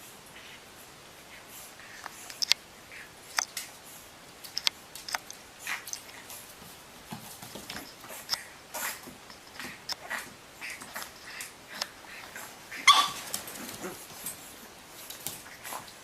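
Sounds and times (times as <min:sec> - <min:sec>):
pet chewing and crunching: 0:01.3 - 0:16.0.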